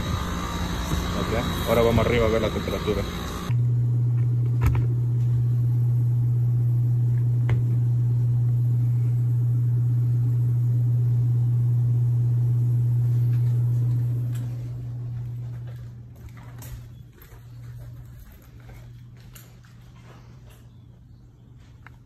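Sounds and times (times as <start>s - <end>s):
air handler humming: 0.0s - 22.0s.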